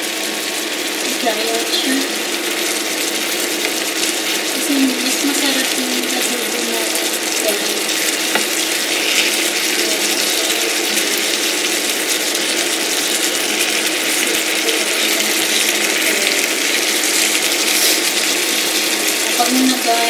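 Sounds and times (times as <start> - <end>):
food simmering and sizzling in pan: 0.0 - 20.0.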